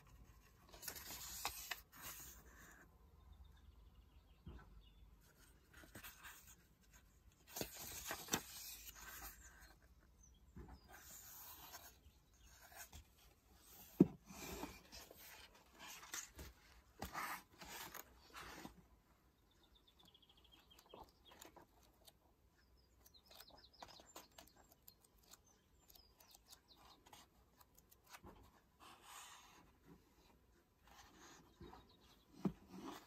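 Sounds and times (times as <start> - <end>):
book pages rustling: 0.0 - 2.9, 5.2 - 19.0, 20.5 - 33.0.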